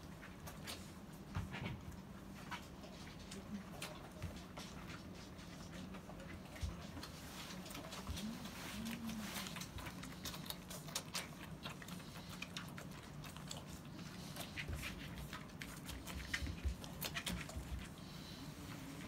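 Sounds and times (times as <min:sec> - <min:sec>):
puppies suckling wet smacking: 0:00.0 - 0:19.0.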